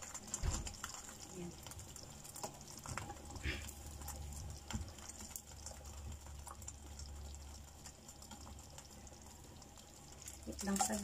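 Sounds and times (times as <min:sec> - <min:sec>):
flatbread crackling in a pan: 0:00.0 - 0:11.0.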